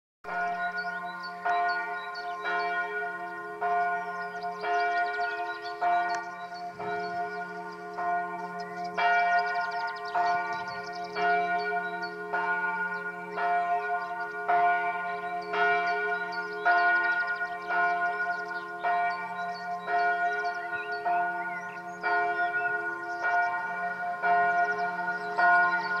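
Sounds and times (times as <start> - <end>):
church bells ringing in a peal: 0.3 - 26.0.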